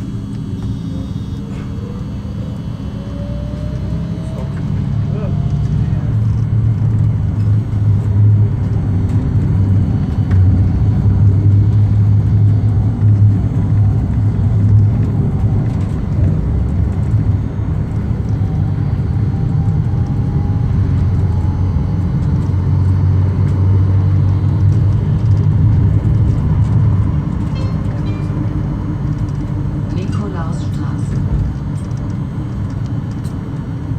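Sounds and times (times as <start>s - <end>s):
tram rumble and hum: 0.0s - 33.9s.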